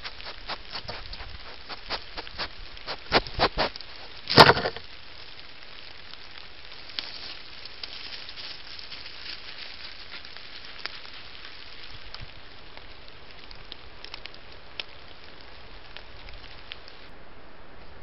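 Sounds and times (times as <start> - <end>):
dry leaves crackling underfoot: 0.0 - 17.1
steady hiss: 0.0 - 18.0.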